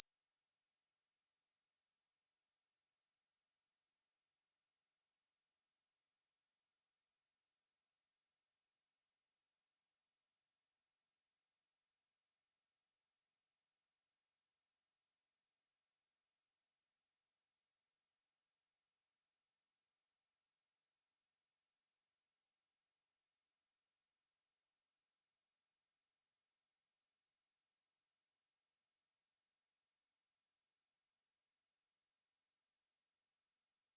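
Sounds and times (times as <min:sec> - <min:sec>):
high-pitched sine-wave test tone: 0:00.0 - 0:33.9.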